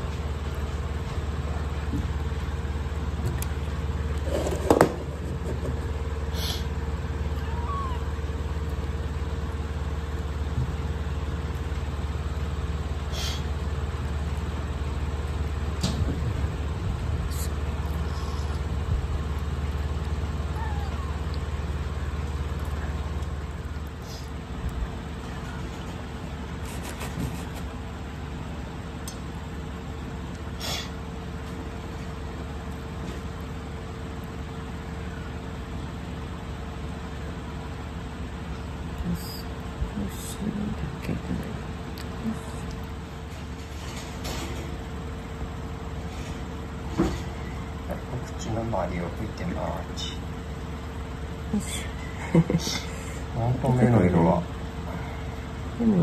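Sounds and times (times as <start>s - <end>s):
low machine hum with tone: 0.0s - 56.0s.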